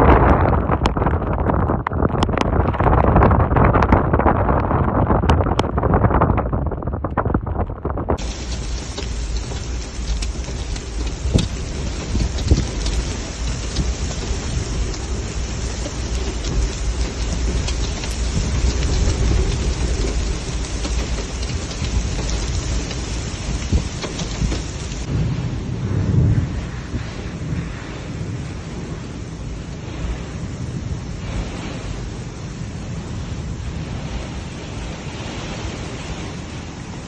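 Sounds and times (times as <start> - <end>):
low rumble: 0.0 - 34.1
heavy rain pouring: 0.0 - 37.0.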